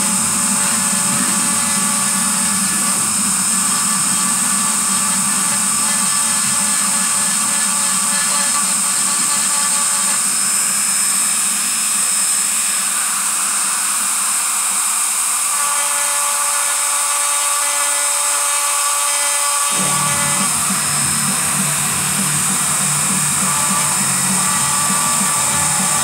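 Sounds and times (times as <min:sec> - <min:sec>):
rotary tool grinding bone: 0:00.0 - 0:26.0.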